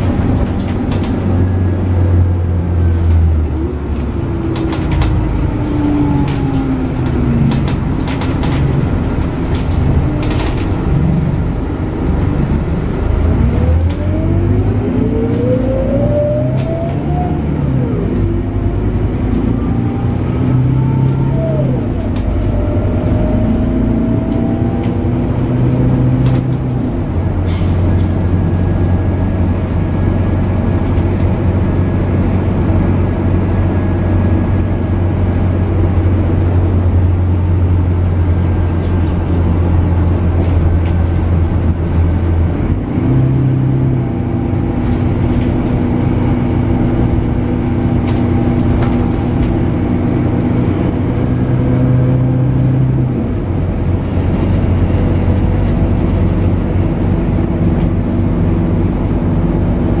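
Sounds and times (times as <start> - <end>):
bus diesel engine drone: 0.0 - 60.0.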